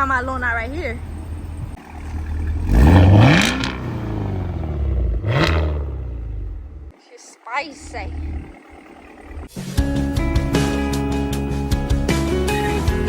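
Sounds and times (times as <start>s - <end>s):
car engine idling: 0.0s - 13.0s
engine revving: 0.0s - 13.0s.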